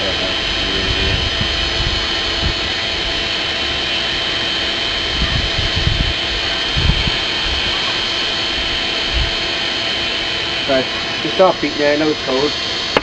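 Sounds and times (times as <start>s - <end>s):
air blower rushing: 0.0s - 13.0s
faint high whine: 0.0s - 13.0s.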